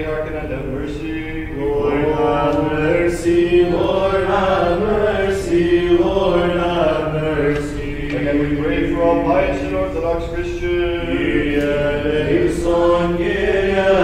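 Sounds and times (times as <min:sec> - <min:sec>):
man chanting a hymn: 0:00.0 - 0:14.0.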